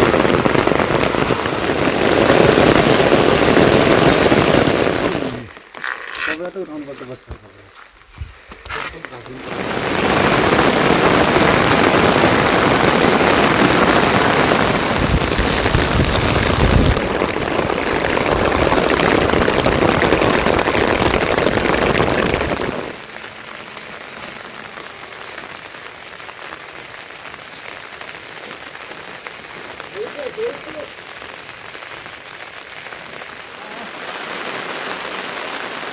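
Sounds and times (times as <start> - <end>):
heavy rain pouring: 0.0 - 7.4, 8.6 - 35.9.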